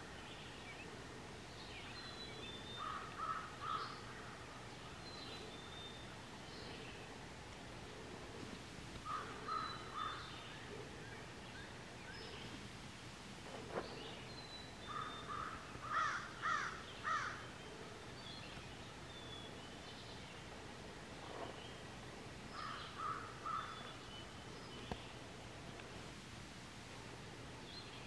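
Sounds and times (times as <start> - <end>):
steady faint hiss: 0.0 - 28.0.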